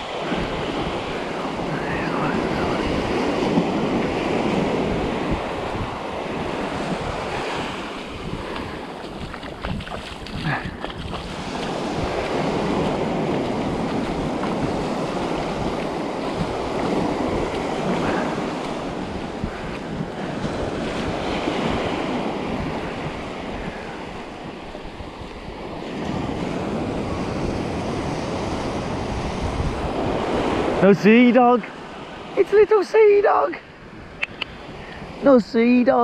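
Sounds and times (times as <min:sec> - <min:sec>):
small waves washing on sand: 0:00.0 - 0:36.0
wind buffeting microphone: 0:00.0 - 0:36.0.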